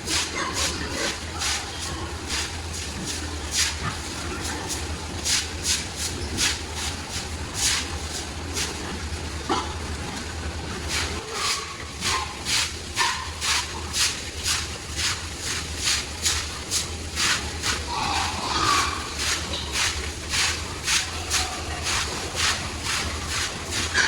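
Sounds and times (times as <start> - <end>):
pigs calling: 0.0 - 14.4, 15.5 - 24.0
steady low hum: 0.0 - 24.0.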